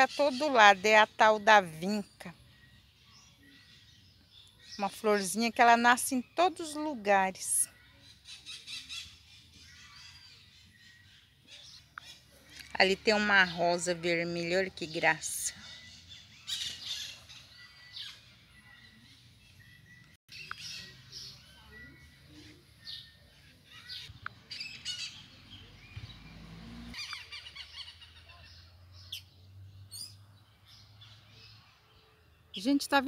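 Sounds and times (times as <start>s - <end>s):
birds chirping and trilling: 0.0s - 33.0s.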